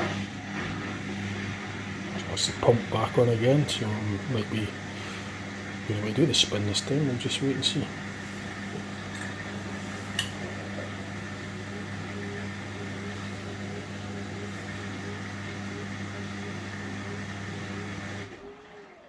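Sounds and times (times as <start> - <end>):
washing machine drain pump humming: 0.0 - 19.0.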